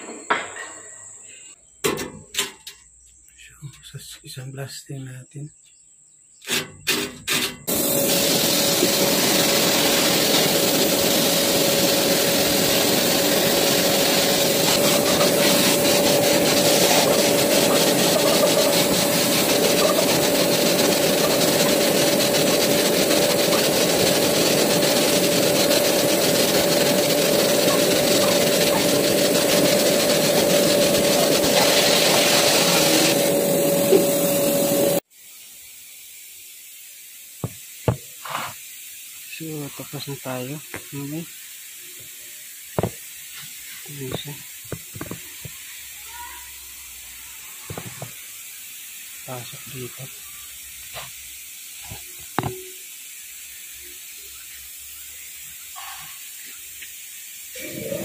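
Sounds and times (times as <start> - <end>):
compressed air blasting hiss: 6.4 - 58.0.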